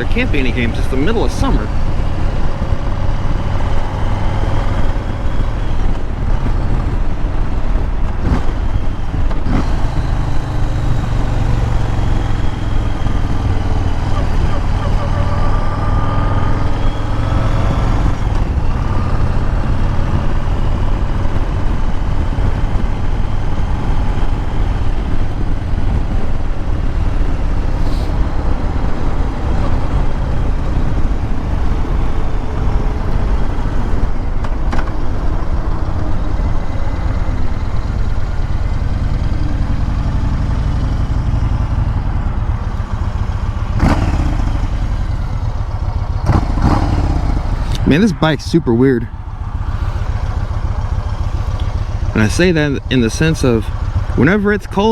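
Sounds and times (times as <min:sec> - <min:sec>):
motorcycle engine and exhaust: 0:00.0 - 0:54.9.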